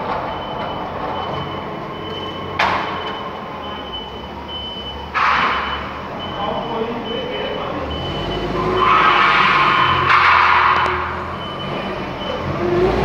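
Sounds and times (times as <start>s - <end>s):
forklift running: 0.0s - 13.0s.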